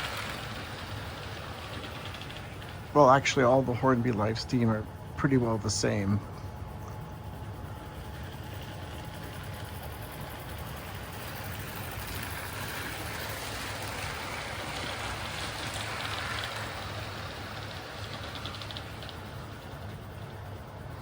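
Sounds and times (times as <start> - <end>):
model train wheels rolling: 0.0 - 6.3, 7.5 - 21.0
low hum: 0.0 - 18.0.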